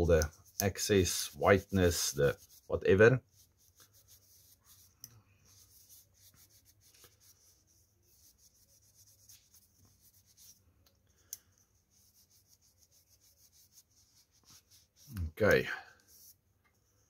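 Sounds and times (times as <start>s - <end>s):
cloth rubbing on wooden handle: 0.0s - 10.6s, 11.8s - 17.0s.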